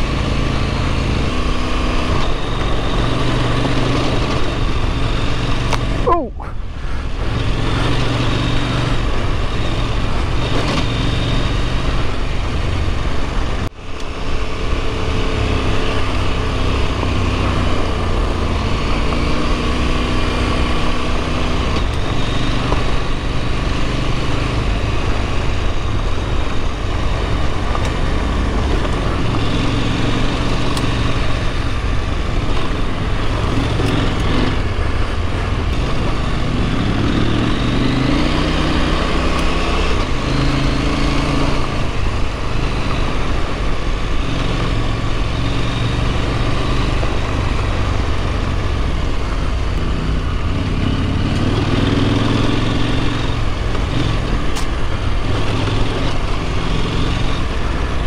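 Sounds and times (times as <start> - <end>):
motorcycle engine at speed: 0.0 - 58.0
wind: 0.0 - 58.0.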